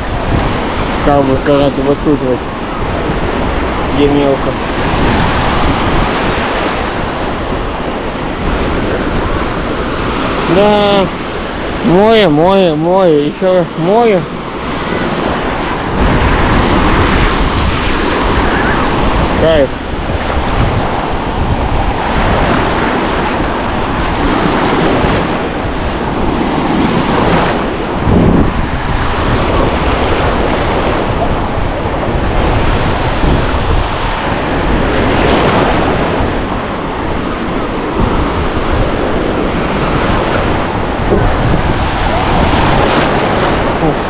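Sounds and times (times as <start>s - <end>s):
surf washing onto shore: 0.0s - 44.0s
wind rumbling on microphone: 0.0s - 44.0s.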